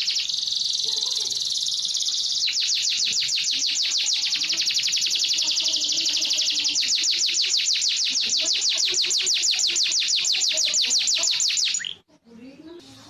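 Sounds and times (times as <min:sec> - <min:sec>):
canary singing: 0:00.0 - 0:12.1.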